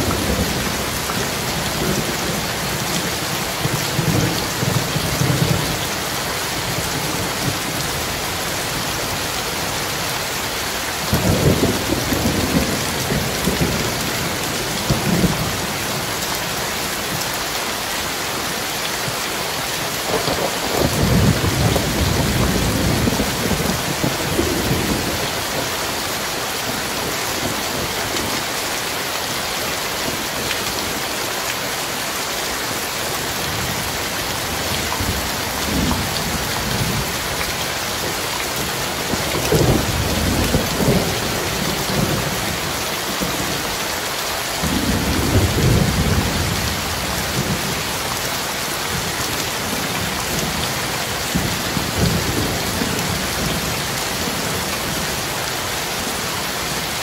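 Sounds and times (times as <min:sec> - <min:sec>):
rain on wet road: 0:00.0 - 0:57.0.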